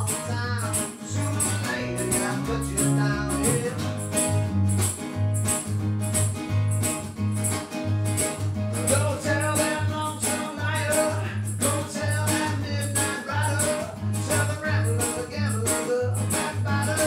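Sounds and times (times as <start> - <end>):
guitars strumming: 0.0 - 17.0.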